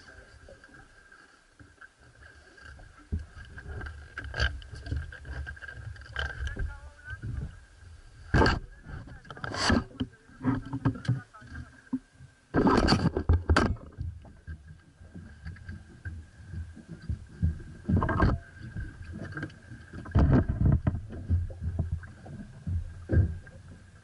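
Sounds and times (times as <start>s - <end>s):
boat engine low rumble: 0.0s - 24.0s.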